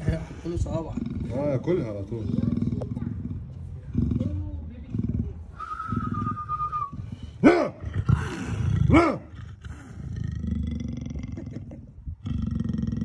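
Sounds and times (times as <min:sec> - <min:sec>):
leopard snarling: 0:00.0 - 0:06.4, 0:07.0 - 0:13.0
low growling: 0:00.0 - 0:13.0.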